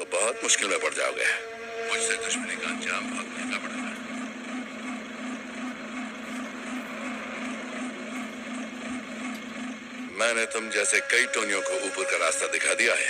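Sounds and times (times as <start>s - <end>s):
traffic noise: 0.0s - 13.0s
low engine hum: 0.1s - 12.8s.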